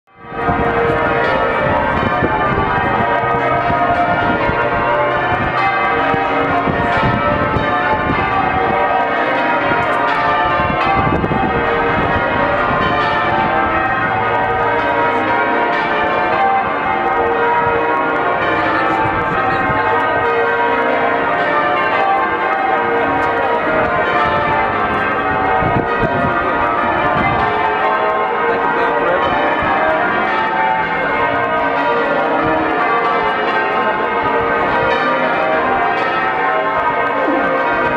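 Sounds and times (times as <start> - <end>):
church bells pealing: 0.1 - 37.9.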